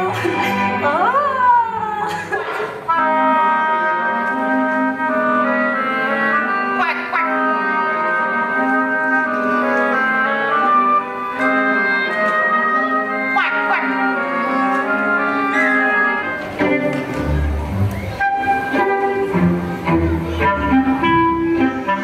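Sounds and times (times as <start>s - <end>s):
orchestral wind and brass: 2.5s - 22.0s.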